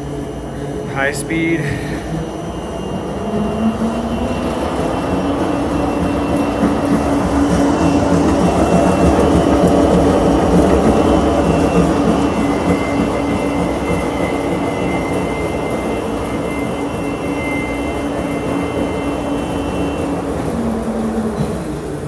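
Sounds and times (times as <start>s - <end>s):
faint high whine: 0.0s - 21.6s
mixer motor humming: 0.0s - 22.0s.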